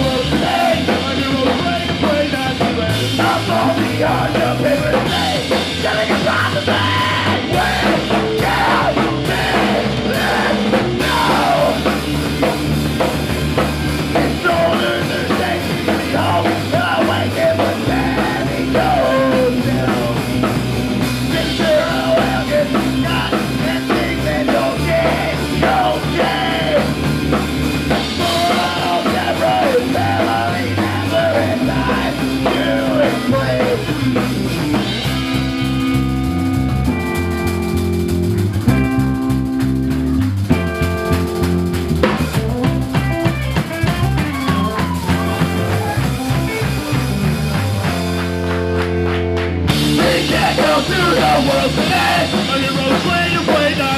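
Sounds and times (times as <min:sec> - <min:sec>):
bending lead guitar line: 0:00.0 - 0:53.9
live rock band playing: 0:00.0 - 0:53.9.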